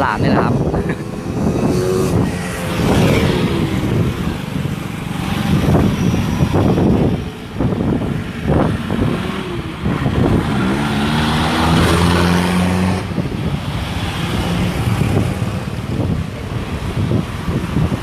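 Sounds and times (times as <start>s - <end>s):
street traffic noise: 0.0s - 18.0s
vehicle engine revving: 0.4s - 18.0s.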